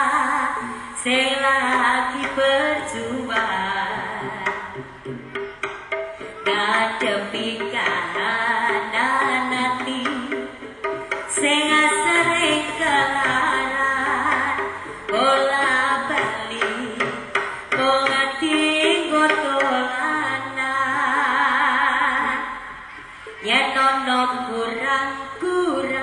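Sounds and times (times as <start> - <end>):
person singing: 0.0 - 5.4, 6.2 - 26.0
gamelan-style accompaniment: 0.0 - 26.0
hand drums: 0.0 - 26.0.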